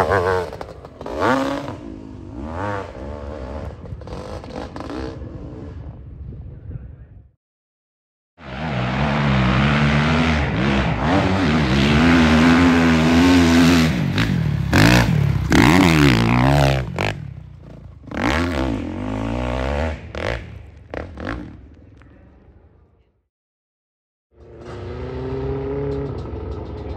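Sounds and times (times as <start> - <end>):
dirt bike engine revving: 0.0 - 5.9, 8.4 - 21.6, 24.4 - 26.9.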